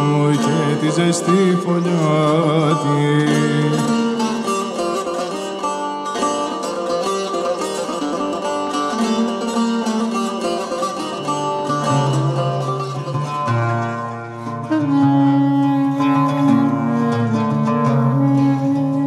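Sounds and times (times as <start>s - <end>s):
plucked lute melody: 0.0s - 19.0s.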